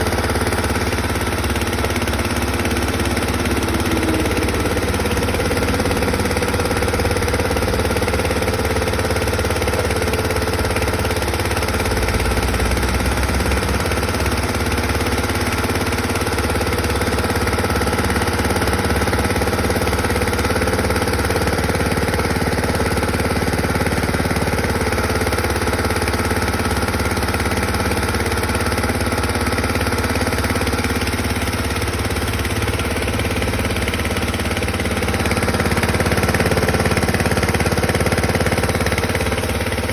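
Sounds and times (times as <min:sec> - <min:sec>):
pressure washer machine humming: 0:00.0 - 0:39.9.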